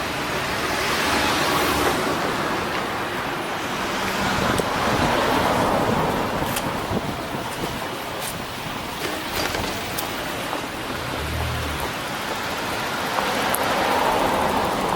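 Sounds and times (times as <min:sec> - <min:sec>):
road traffic passing: 0:00.0 - 0:14.9.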